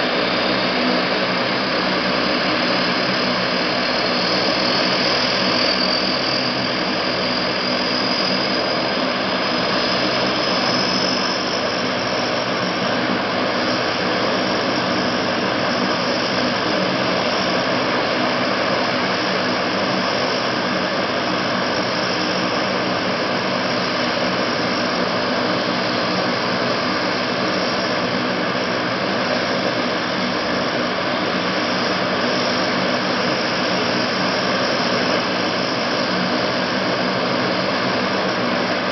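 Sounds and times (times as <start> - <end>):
high-pitched whine: 0.0 - 38.9
turboprop engines running: 0.0 - 38.9.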